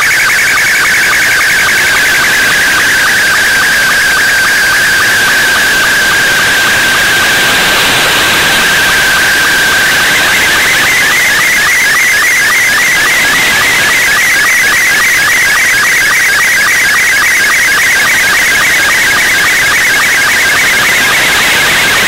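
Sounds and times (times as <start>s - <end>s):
radio hiss: 1.7s - 15.6s, 17.8s - 22.0s.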